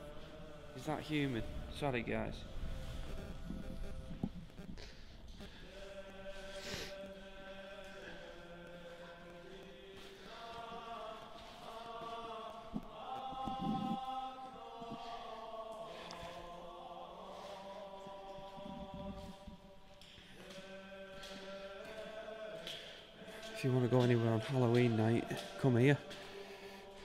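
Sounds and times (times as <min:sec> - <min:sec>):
choir-like chanting music: 0:00.0 - 0:27.0.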